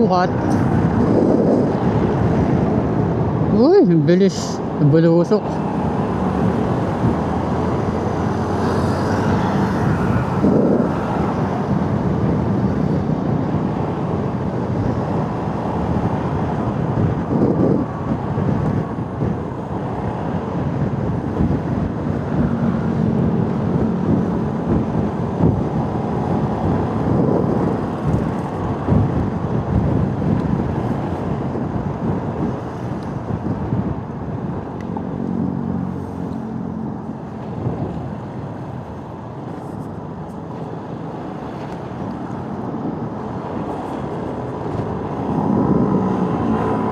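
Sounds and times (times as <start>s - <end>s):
road and wind noise: 0.0s - 46.9s.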